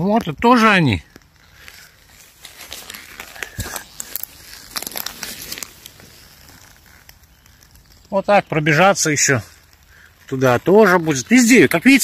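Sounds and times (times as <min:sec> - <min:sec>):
dry leaves and twigs crackling: 0:00.0 - 0:12.0.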